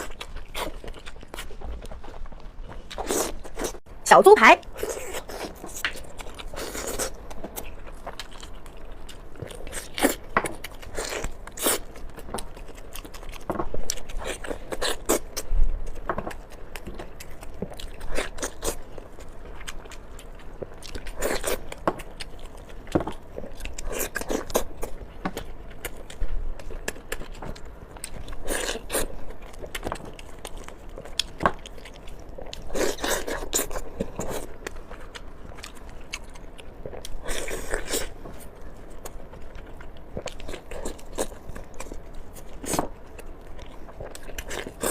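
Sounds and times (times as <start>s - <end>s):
person chewing meat: 0.0s - 3.9s, 4.6s - 44.9s.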